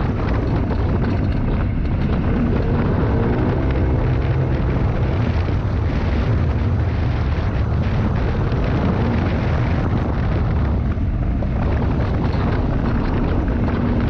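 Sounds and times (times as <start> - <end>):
vehicle engine drone: 0.0 - 14.0
wind rumble on microphone: 0.0 - 14.0.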